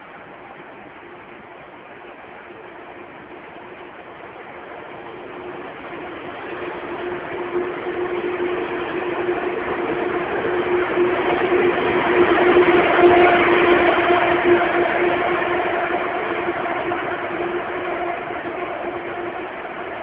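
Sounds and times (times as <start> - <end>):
electric train pulling out: 0.0 - 20.0.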